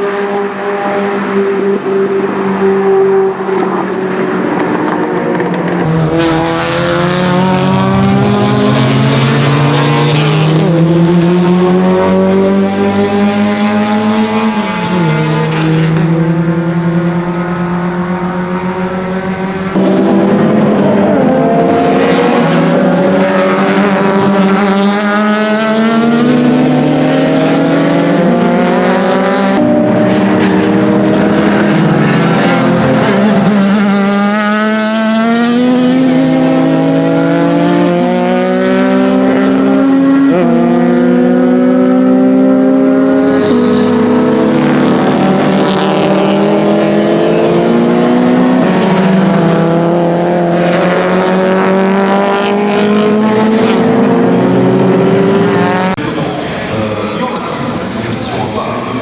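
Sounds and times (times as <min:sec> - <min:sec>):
race car engine accelerating hard: 0:00.0 - 0:59.0.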